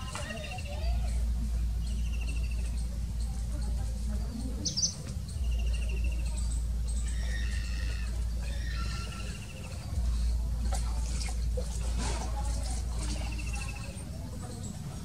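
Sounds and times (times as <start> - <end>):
small birds chirping and trilling: 0.0 - 10.7, 12.3 - 15.0
steady low rumble: 0.7 - 8.6, 9.2 - 15.0.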